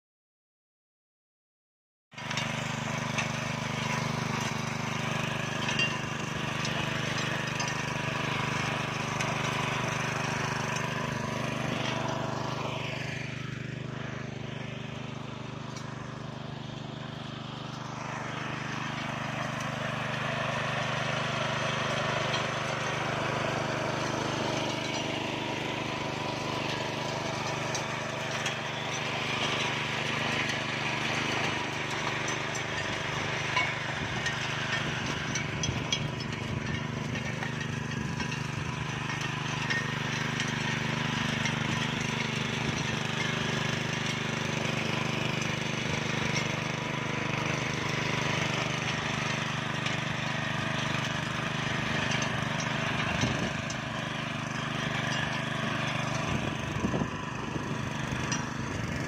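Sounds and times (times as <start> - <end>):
petrol engine running: 2.2 - 59.0
rotary blades churning soil: 2.2 - 59.0.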